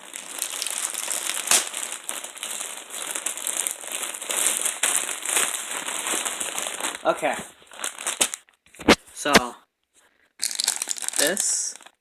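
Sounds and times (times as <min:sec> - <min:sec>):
parcel packaging crinkling: 0:00.0 - 0:09.0, 0:10.4 - 0:12.0.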